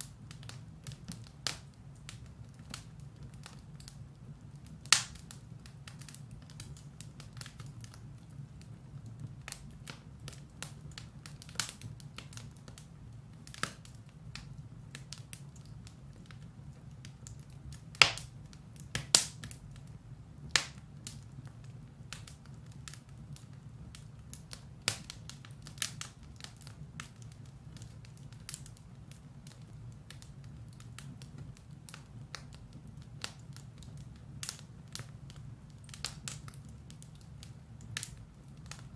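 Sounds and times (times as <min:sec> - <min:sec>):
firewood crackling and popping: 0:00.0 - 0:38.9.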